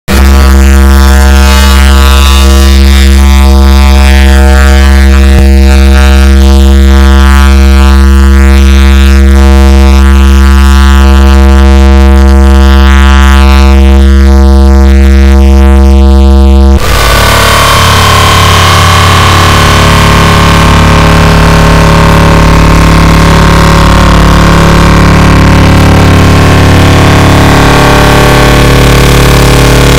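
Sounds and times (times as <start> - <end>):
distorted low droning tone: 0.0 - 29.9.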